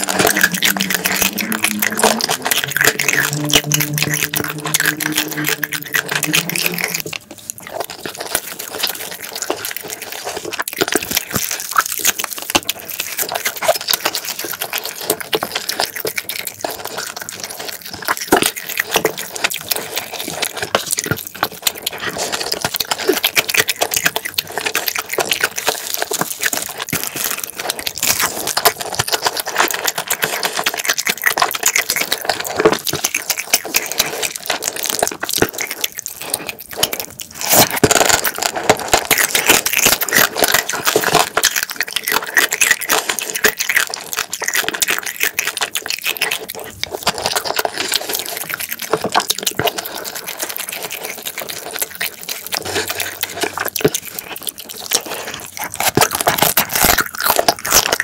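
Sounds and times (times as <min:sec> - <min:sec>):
wet sticky chewing: 0:00.0 - 0:58.0.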